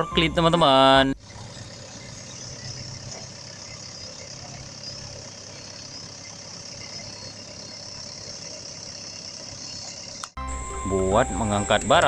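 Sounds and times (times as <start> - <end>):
engine idling rumble: 0.2 - 12.0.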